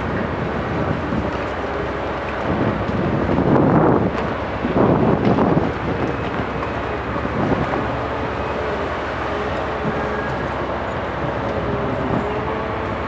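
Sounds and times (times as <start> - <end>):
excavator engine and hydraulics droning: 0.0 - 13.0.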